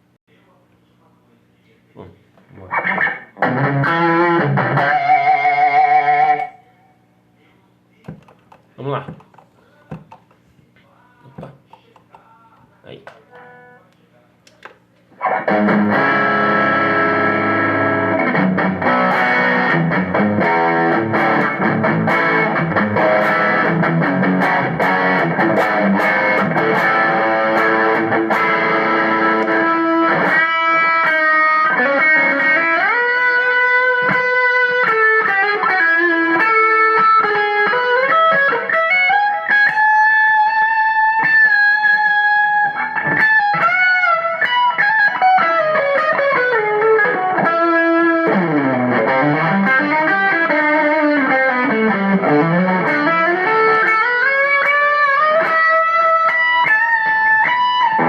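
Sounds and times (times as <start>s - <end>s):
distorted electric guitar: 2.5s - 7.0s, 13.0s - 13.8s, 15.1s - 58.0s.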